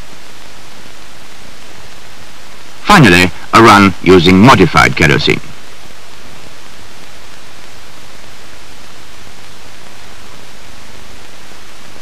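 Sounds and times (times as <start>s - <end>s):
film soundtrack hiss: 0.0s - 12.0s.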